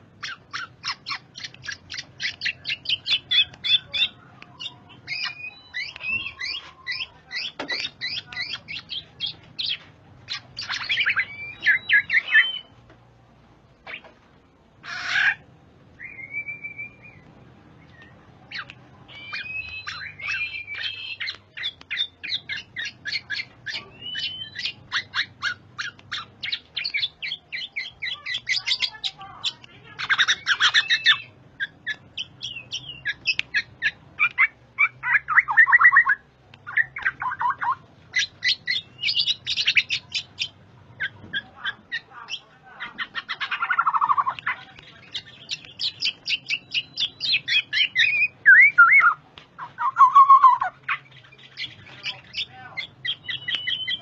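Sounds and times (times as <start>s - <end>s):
bird singing chattering notes: 0.0s - 12.7s, 17.8s - 54.0s
harsh rasping bird calls: 0.0s - 12.7s, 14.8s - 16.3s, 18.0s - 54.0s.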